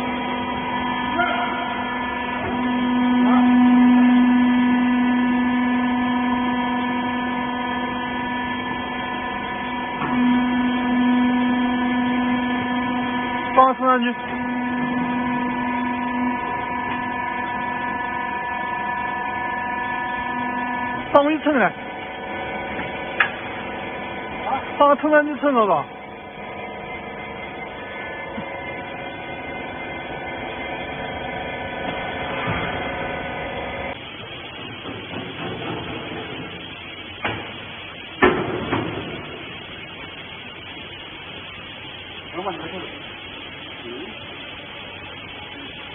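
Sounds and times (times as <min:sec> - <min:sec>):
hydraulic pump motor hum: 0:00.0 - 0:45.9.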